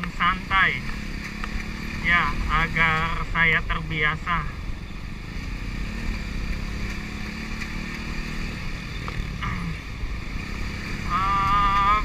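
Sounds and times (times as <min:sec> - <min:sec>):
motorcycle engine running: 0:00.0 - 0:12.0
wind and road rush: 0:00.0 - 0:12.0.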